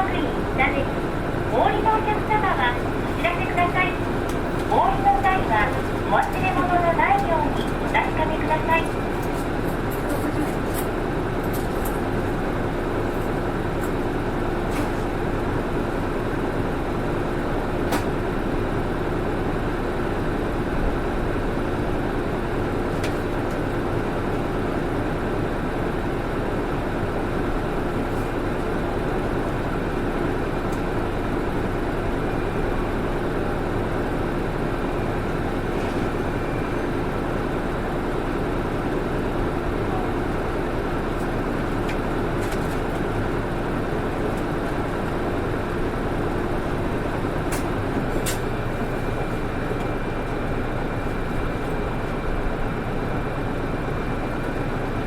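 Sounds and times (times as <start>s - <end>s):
bus engine and road drone: 0.0s - 55.0s
constant hum: 0.0s - 55.0s.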